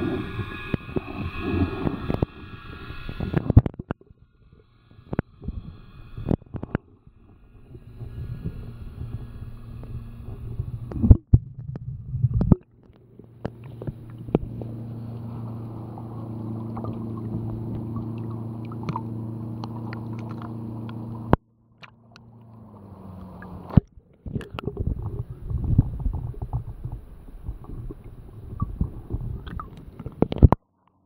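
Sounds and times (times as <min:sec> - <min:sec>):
muffled water sloshing: 0:00.0 - 0:30.6
steady low hum: 0:00.0 - 0:30.6.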